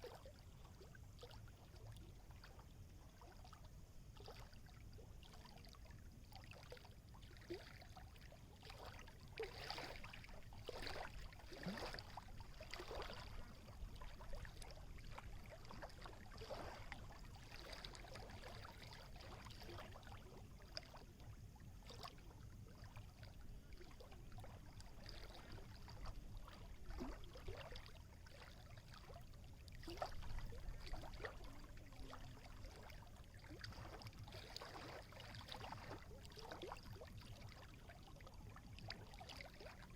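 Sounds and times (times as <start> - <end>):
small waves lapping and splashing: 0.0 - 39.9.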